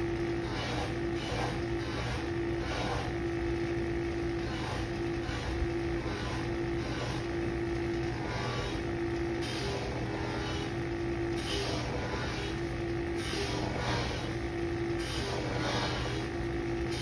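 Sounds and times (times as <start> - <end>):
high tone of buffing wheel: 0.0 - 3.2, 4.4 - 14.4, 15.0 - 17.0
electric buffing motor humming: 0.0 - 17.0.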